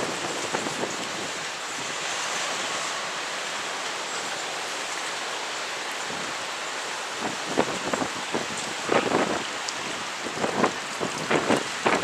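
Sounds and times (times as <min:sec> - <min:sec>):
water rushing from a drain: 0:00.0 - 0:12.0.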